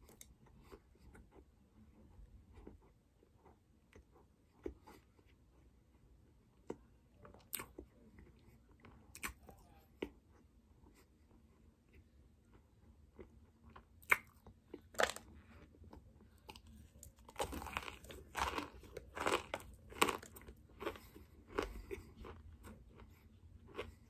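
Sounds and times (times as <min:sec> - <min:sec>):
crunchy chewing: 0:00.0 - 0:24.0.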